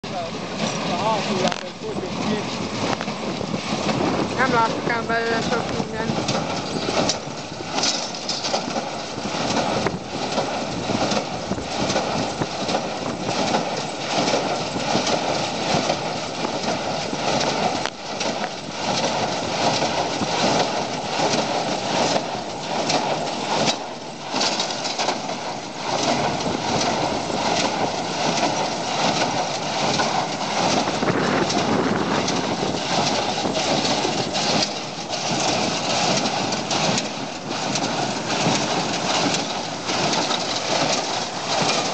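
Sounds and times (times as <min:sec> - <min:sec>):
tractor engine running: 0:00.0 - 0:41.9
baler clattering: 0:00.1 - 0:41.9.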